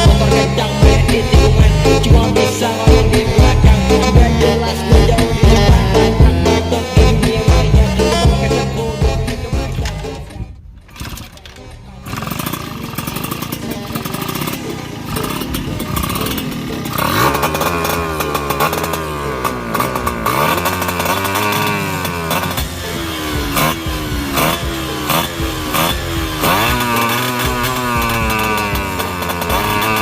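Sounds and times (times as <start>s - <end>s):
two-stroke engine revving and sputtering: 0.0s - 30.0s.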